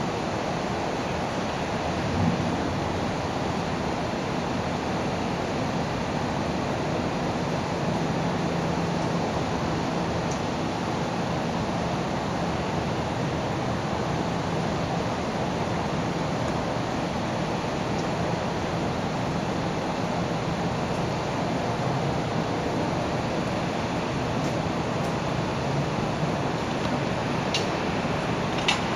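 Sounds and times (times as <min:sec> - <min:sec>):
steady rushing noise: 0:00.0 - 0:28.9.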